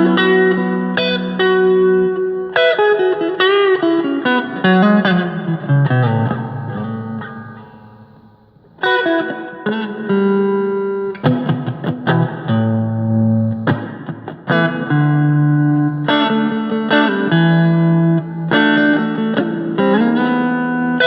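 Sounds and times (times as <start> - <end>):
clean electric guitar playing: 0.0 - 21.0.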